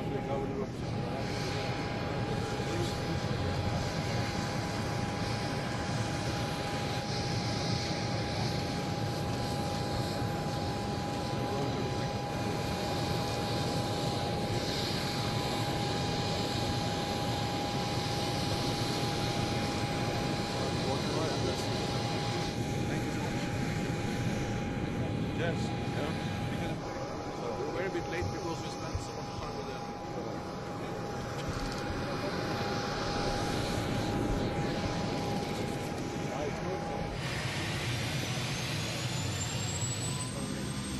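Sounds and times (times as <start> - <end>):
jet engine running: 0.0 - 40.9.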